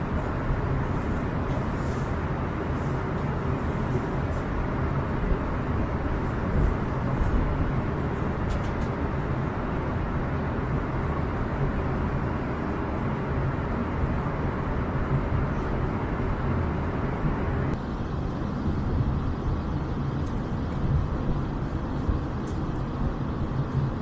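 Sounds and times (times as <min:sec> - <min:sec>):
jet engines droning: 0:00.0 - 0:24.0.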